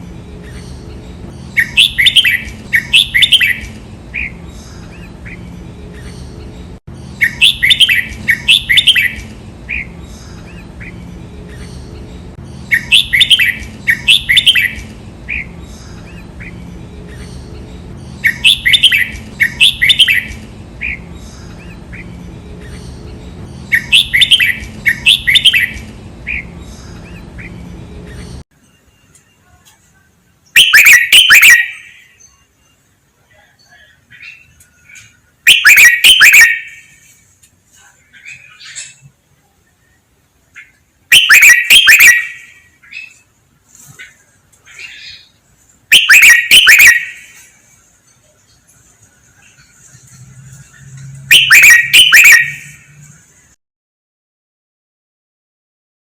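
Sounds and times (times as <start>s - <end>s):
bulbul singing: 0.0s - 37.2s, 39.7s - 43.4s, 44.0s - 53.6s.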